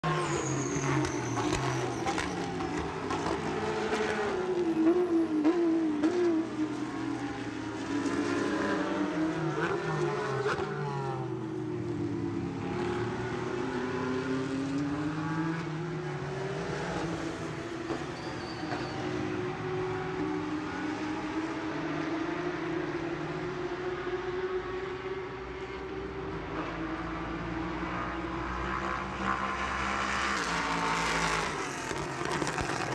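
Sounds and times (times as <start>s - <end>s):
racing engines passing: 0.0s - 32.9s.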